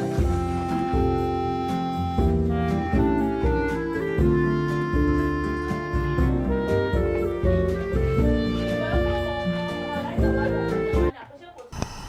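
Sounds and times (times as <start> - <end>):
instrumental music with bass line: 0.0 - 11.1.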